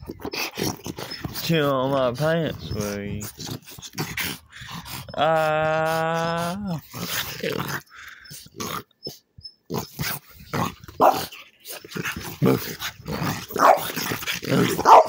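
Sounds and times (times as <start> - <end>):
dog growling and barking: 0.0 - 15.0.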